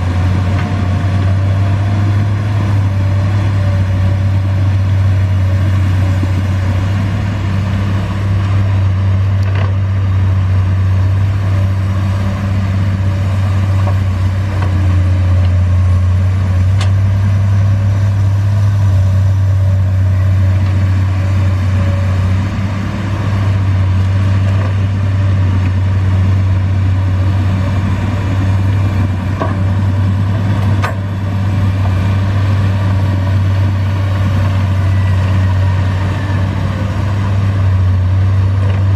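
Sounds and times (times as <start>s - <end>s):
excavator diesel engine drone: 0.0s - 38.9s.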